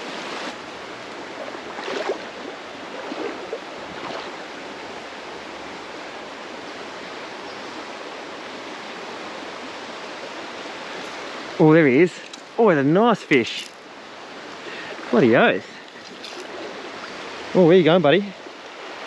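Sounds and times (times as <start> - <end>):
creek rushing: 0.0 - 19.0.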